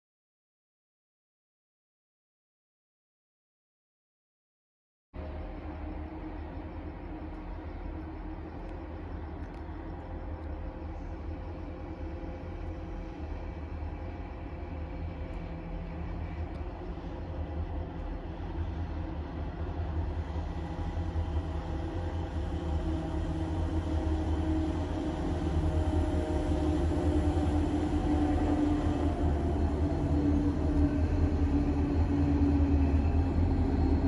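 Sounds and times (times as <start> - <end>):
train rumbling and humming: 5.2 - 34.0.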